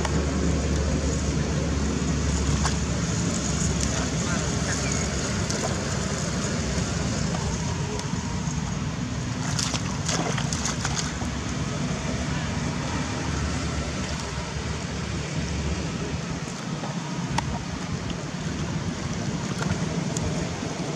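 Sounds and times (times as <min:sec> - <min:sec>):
steady low rumble: 0:00.0 - 0:20.9
water splashing: 0:01.8 - 0:20.9.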